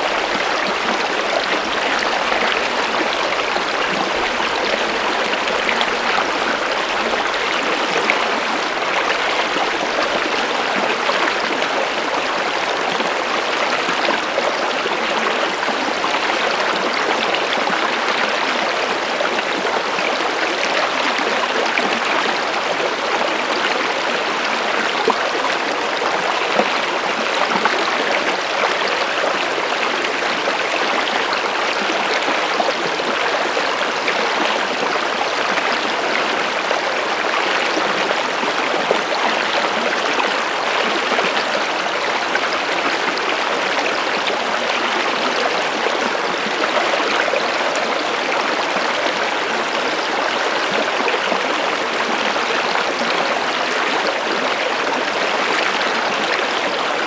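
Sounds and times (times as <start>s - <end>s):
water running in a stream: 0.0s - 57.0s.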